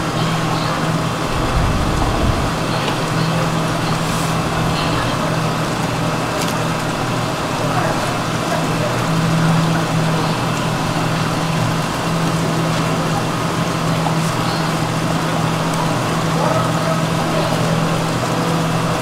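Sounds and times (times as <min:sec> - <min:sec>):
low machine hum: 0:00.0 - 0:15.4.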